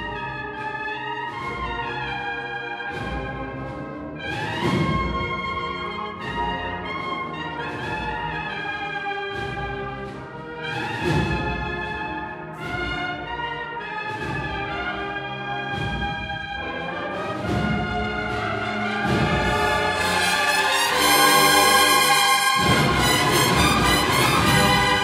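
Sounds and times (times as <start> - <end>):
cornets playing chords: 0.0 - 25.0
drum strokes: 2.8 - 8.6, 9.3 - 13.4, 14.0 - 25.0.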